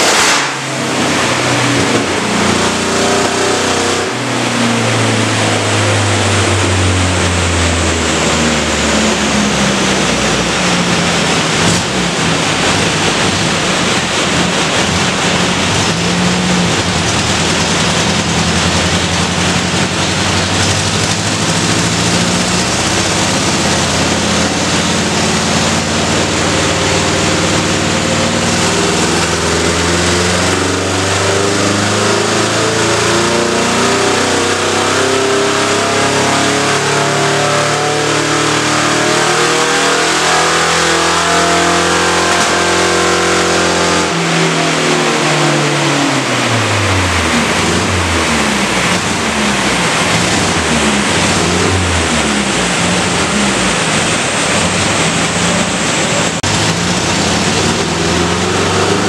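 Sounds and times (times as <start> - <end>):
engine running hard on a dyno: 0.0 - 59.0
steady rushing noise: 0.0 - 59.0.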